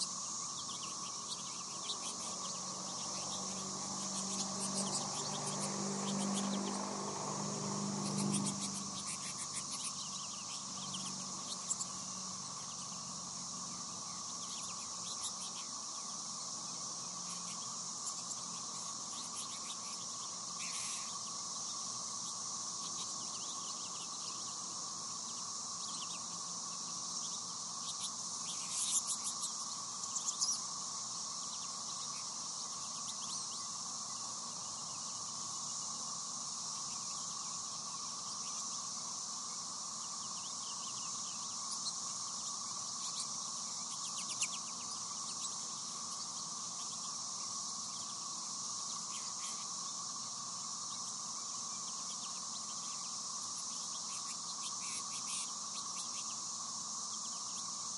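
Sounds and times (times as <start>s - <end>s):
birds chirping and twittering: 0.0s - 57.9s
crickets and insects chorus: 0.0s - 57.9s.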